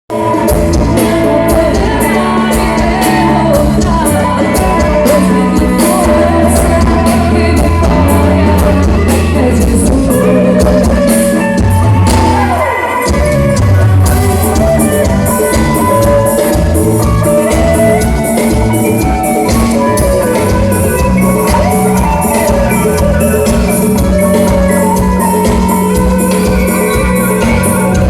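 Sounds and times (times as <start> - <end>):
drums keeping a beat: 0.1 - 28.0
loud live band music: 0.1 - 28.0
person singing: 0.1 - 28.0
heavy bass line: 0.2 - 28.0.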